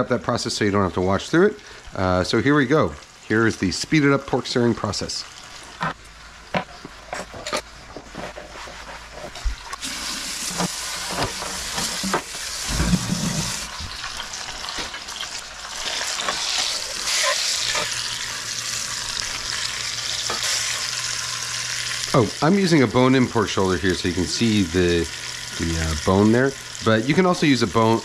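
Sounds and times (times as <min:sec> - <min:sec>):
meat sizzling in hot oil: 0:00.3 - 0:28.0
oil crackling and popping: 0:05.3 - 0:28.0.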